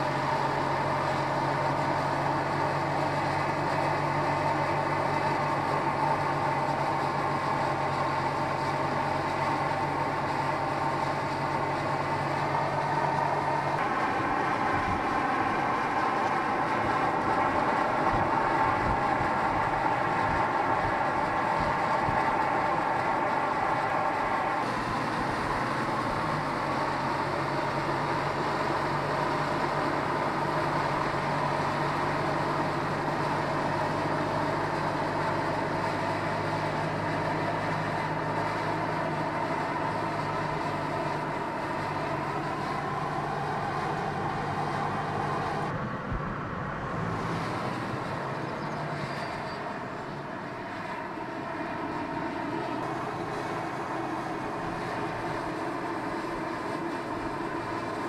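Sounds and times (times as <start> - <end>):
car engine while driving: 0.0 - 58.0.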